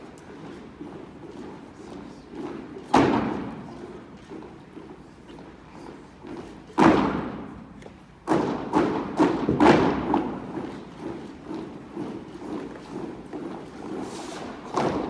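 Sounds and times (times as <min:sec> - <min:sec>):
marching steps echoing: 0:00.0 - 0:15.0.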